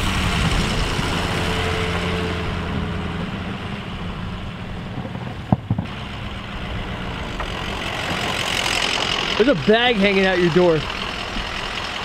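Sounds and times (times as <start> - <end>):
pickup truck engine: 0.0 - 12.0.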